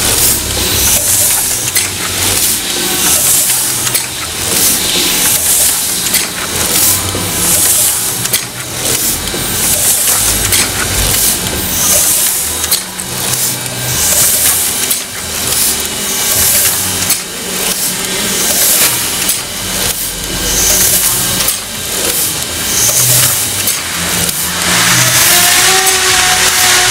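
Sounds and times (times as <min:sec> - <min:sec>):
printing press mechanical clatter: 0:00.0 - 0:26.9
steady hum: 0:00.0 - 0:26.9.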